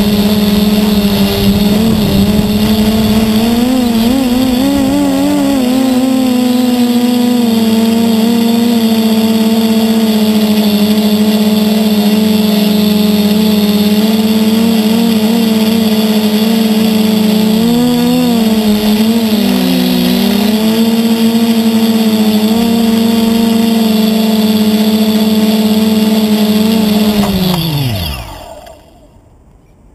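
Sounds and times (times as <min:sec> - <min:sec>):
quadcopter motors buzzing: 0:00.0 - 0:29.3.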